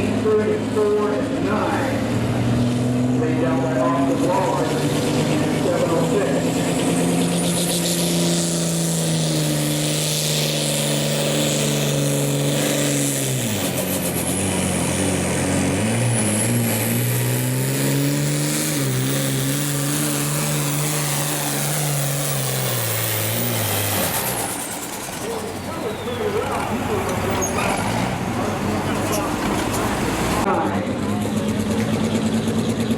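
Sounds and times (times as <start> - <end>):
diesel tractor engine under load: 0.0 - 32.9.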